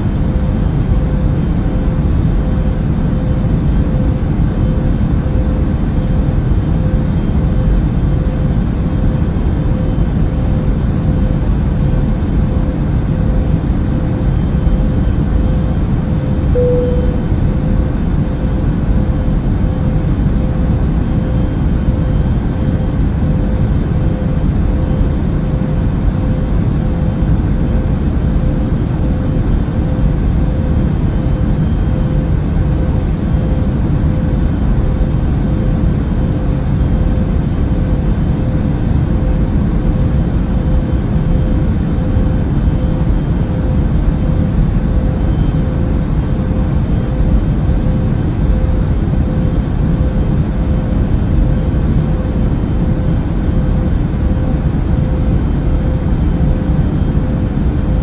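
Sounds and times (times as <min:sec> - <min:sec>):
airliner cabin engine rumble: 0:00.0 - 0:58.0
faint constant hum: 0:00.0 - 0:58.0.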